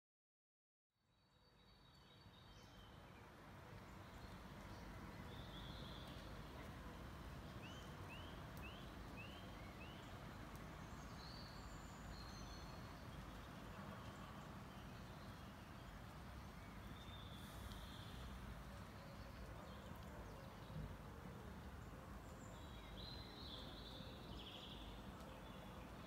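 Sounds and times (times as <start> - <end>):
garden birds calling: 1.9 - 26.0.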